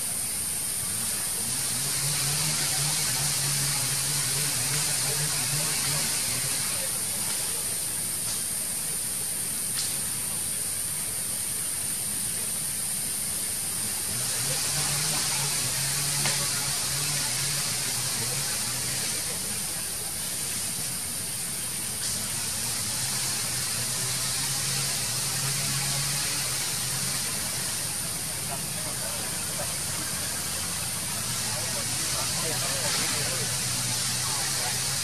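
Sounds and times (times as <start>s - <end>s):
high-pitched outdoor hiss: 0.0s - 35.0s.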